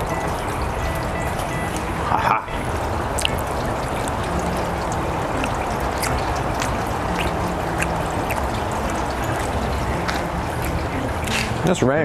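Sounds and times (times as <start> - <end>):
sharp drips landing close: 0.0 - 11.9
steady rain falling: 0.0 - 12.0.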